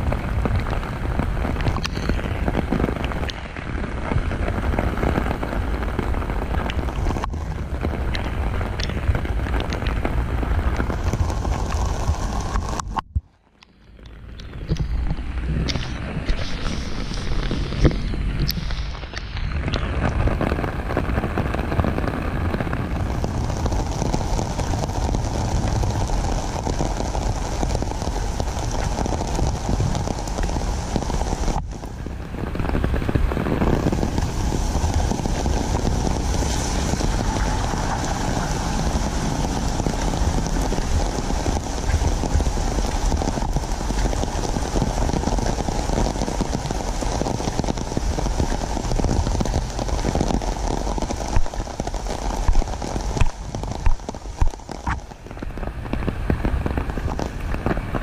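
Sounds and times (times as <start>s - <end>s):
heavy rain on pavement and umbrella: 0.0s - 58.0s.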